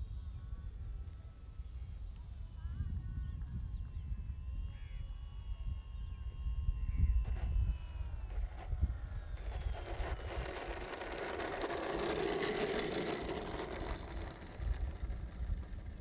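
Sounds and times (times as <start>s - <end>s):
wind rumble on microphone: 0.0s - 16.0s
model airplane propeller and motor: 0.5s - 16.0s.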